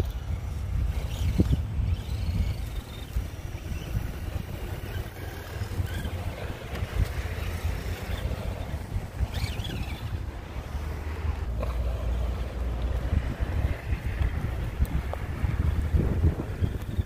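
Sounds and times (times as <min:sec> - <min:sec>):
electric toy trucks whining: 0:00.0 - 0:17.0
wind noise on microphone: 0:00.0 - 0:17.0.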